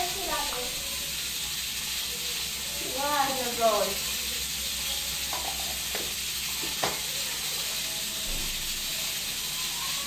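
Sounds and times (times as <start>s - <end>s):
pan hissing on stove: 0.0s - 10.0s.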